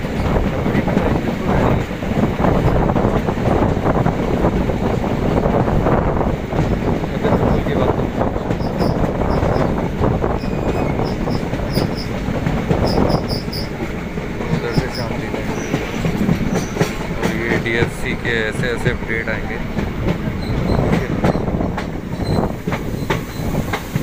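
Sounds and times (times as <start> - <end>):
train wheels rumbling on rails: 0.0 - 24.0
wind rush: 0.0 - 24.0.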